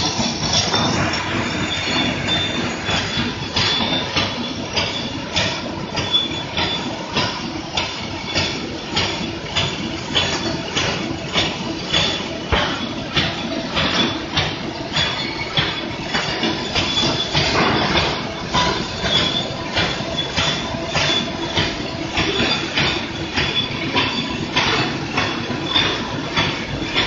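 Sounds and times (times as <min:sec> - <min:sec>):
machine clacking: 0:00.0 - 0:27.0
packing machine clattering: 0:00.0 - 0:27.0.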